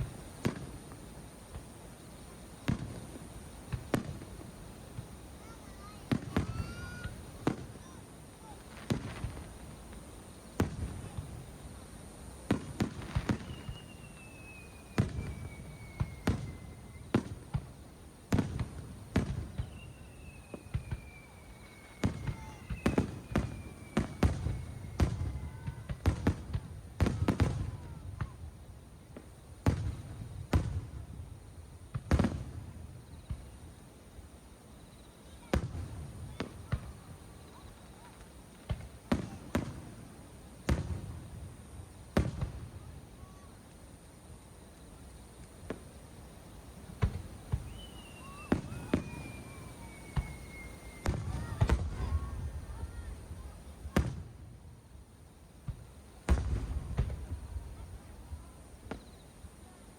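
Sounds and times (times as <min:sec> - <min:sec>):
falling firework whistles: 0:00.0 - 0:54.6, 0:55.6 - 0:59.7
fireworks bursting: 0:00.0 - 0:59.6.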